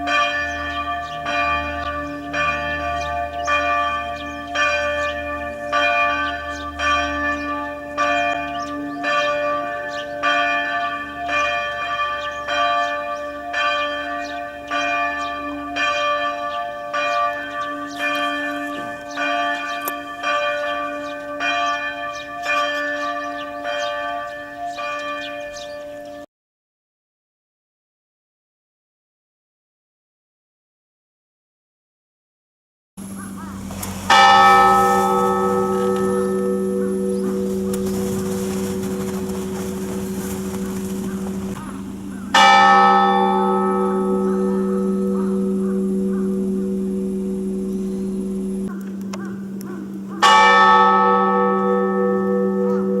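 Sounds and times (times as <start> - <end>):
church bells ringing: 0.0 - 26.3, 33.0 - 53.0.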